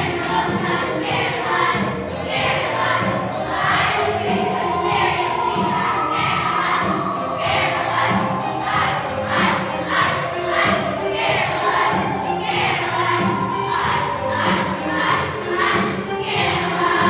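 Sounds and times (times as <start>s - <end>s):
children's choir singing: 0.0s - 17.0s
musical accompaniment: 0.0s - 17.0s.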